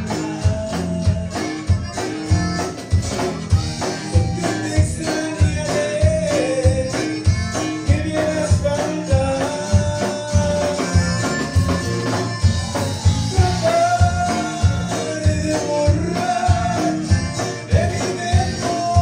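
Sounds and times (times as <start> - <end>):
live band music: 0.0 - 19.0
steady drum beat: 0.0 - 19.0.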